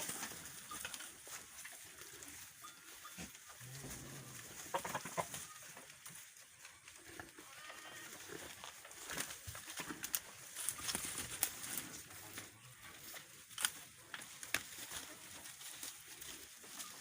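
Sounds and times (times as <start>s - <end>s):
goats calling: 0.0s - 17.0s.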